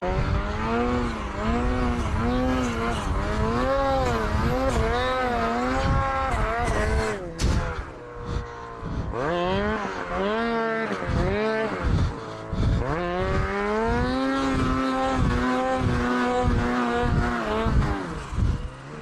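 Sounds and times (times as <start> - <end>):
snowmobile engine at high revs: 0.0 - 19.0.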